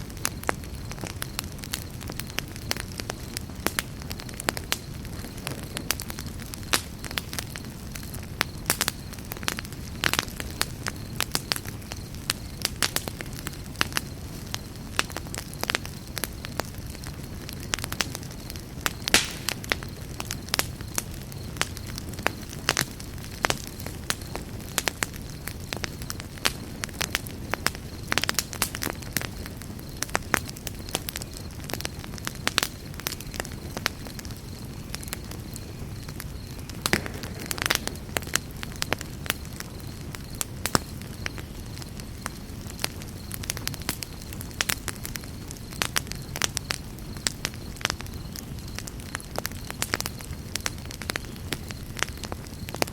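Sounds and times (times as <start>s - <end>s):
burning wood crackling and popping: 0.0s - 52.9s
campfire low rumble: 0.0s - 52.9s.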